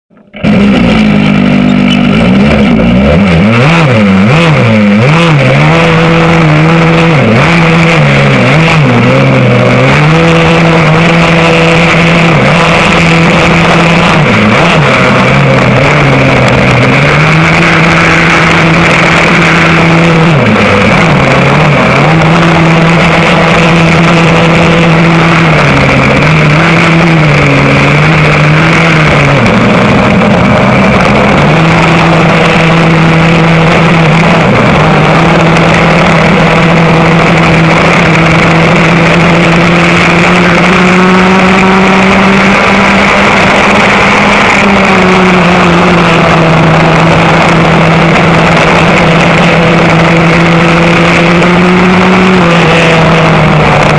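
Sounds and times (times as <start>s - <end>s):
racing kart engine: 0.1s - 53.9s.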